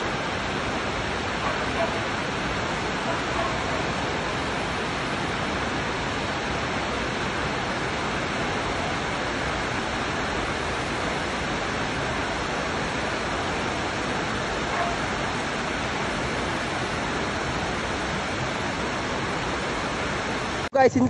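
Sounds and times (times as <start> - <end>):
heavy rain falling: 0.0 - 20.7.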